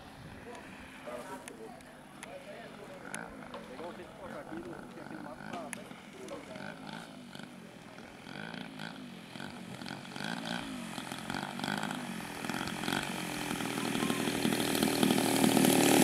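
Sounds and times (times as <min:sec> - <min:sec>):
model plane engine: 0:00.2 - 0:16.0.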